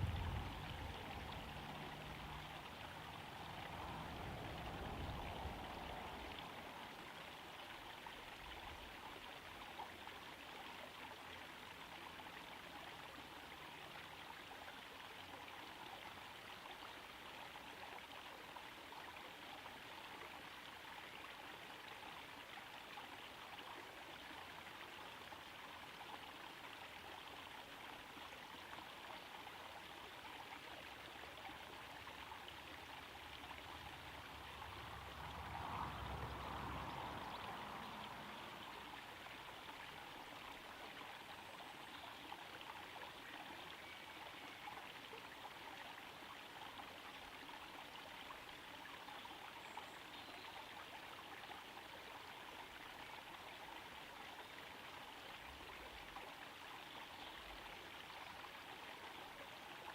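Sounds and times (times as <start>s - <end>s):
water trickling into pond: 0.0s - 59.9s.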